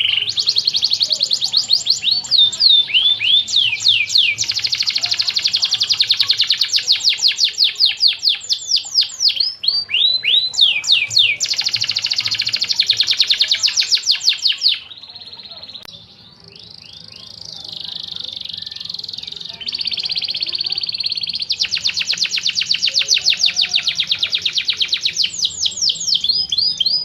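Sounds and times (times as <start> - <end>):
canary singing: 0.0 - 27.0.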